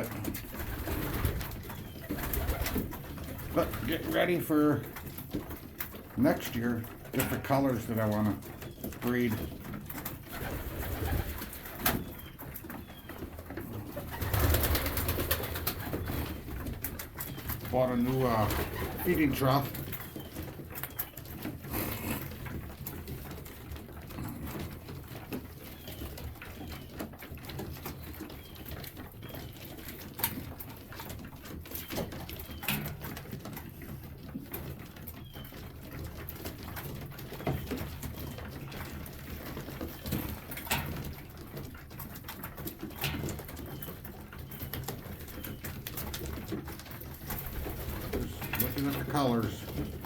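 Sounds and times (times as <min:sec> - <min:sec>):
pigeons cooing: 0:00.0 - 0:50.0.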